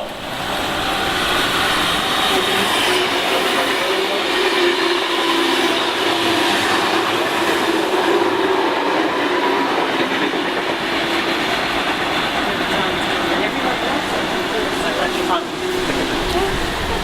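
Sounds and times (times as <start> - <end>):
train wheels rushing on rails: 0.0 - 17.0.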